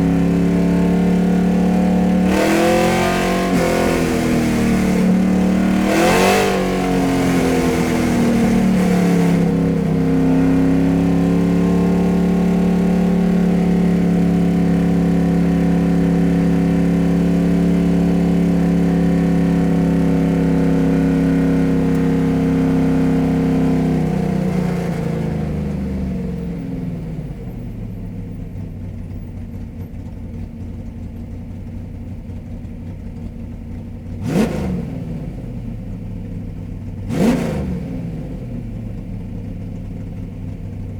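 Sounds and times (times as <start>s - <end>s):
car engine revving and idling: 0.0s - 40.9s.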